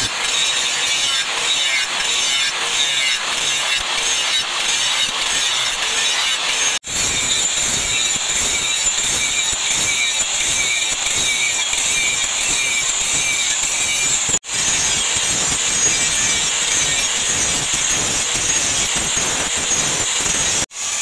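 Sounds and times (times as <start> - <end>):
angle grinder grinding steel: 0.0 - 21.0.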